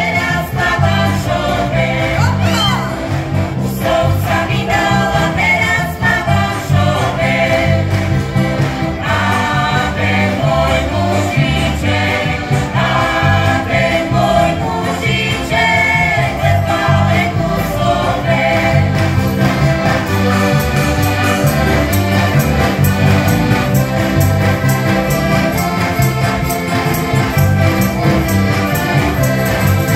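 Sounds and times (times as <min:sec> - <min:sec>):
acoustic guitar: 0:00.0 - 0:29.9
button accordions playing: 0:00.0 - 0:29.9
electric bass: 0:00.0 - 0:29.9
voices singing folk song: 0:00.0 - 0:29.9.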